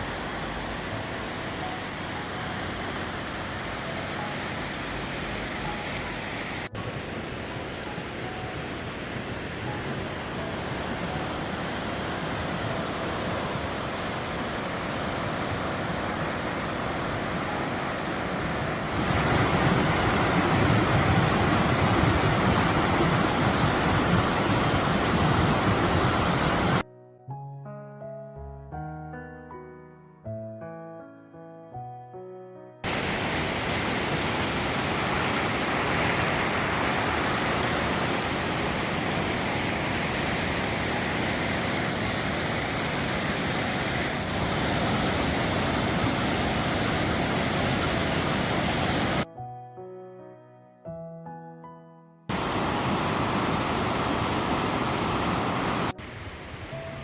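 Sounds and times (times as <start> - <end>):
waterfall rushing: 0.0 - 26.8, 32.8 - 49.3, 52.3 - 57.0.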